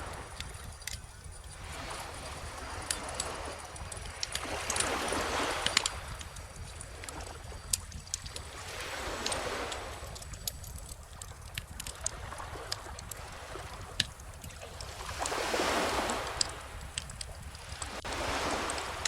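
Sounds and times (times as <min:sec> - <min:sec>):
calm ocean waves washing in: 0:00.0 - 0:19.0
wood bonfire crackling and popping: 0:00.3 - 0:19.0.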